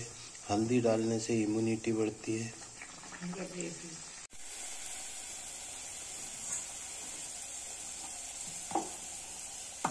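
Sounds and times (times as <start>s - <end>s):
oil sizzling: 0.0s - 9.9s.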